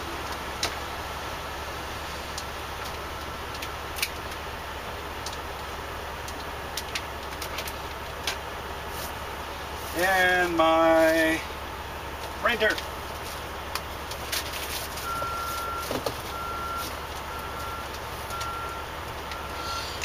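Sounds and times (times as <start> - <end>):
low engine drone in truck cab: 0.0 - 20.0.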